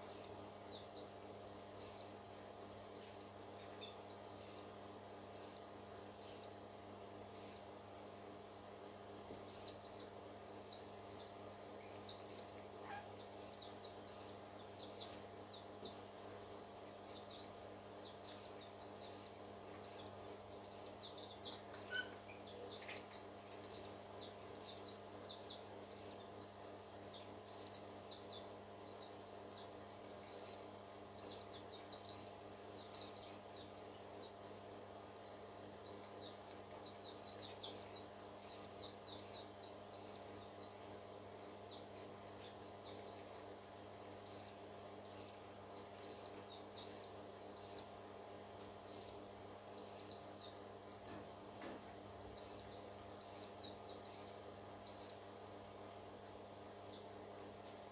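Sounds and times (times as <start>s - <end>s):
baby parrots peeping: 0.0s - 57.3s
faint electrical hum: 0.0s - 57.9s.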